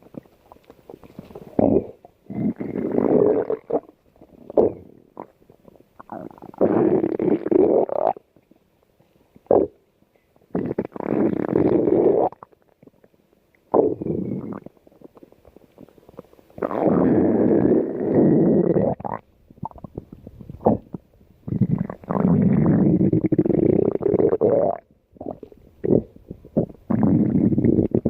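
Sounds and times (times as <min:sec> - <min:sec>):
stomach growling: 0:00.0 - 0:08.6, 0:10.5 - 0:28.0.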